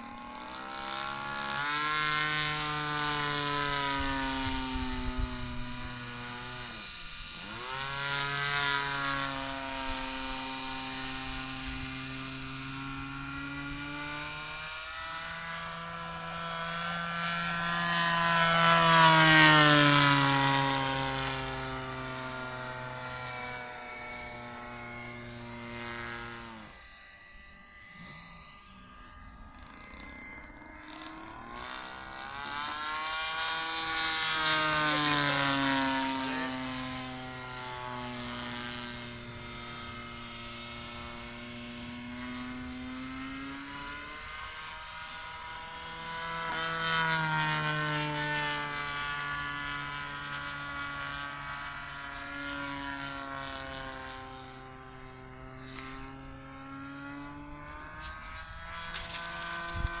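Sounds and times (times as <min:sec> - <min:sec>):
model plane engine: 0:00.0 - 1:00.0.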